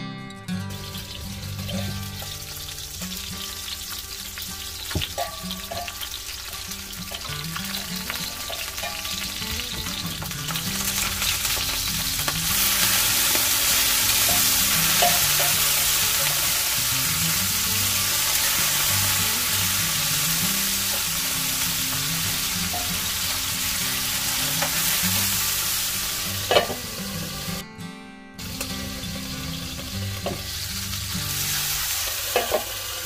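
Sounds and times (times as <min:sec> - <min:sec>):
fish sizzling in a pan: 0:00.7 - 0:27.6, 0:28.4 - 0:33.0.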